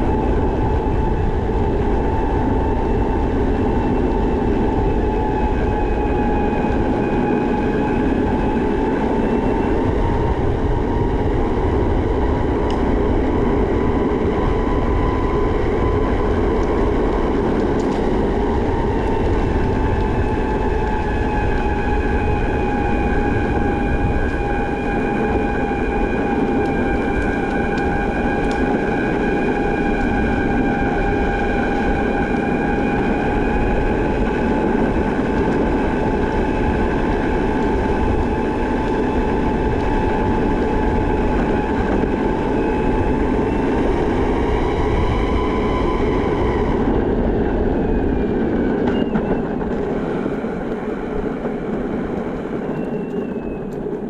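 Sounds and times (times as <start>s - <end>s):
electric skateboard motor whining: 0.0s - 54.0s.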